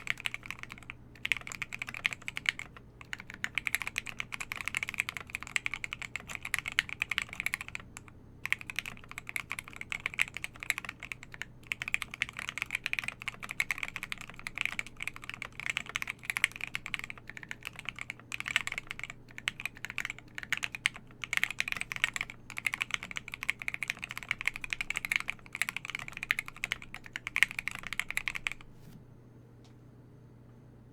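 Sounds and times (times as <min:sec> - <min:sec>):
mechanical keyboard typing: 0:00.0 - 0:28.6.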